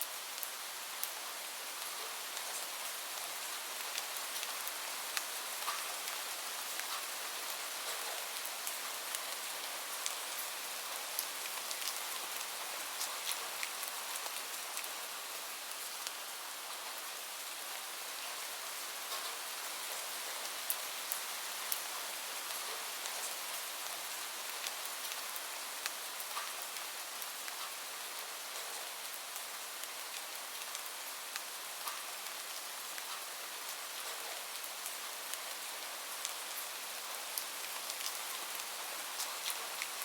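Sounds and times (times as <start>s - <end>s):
steady rain hiss: 0.0s - 40.0s
raindrops ticking on a surface: 0.1s - 17.8s, 18.4s - 40.0s.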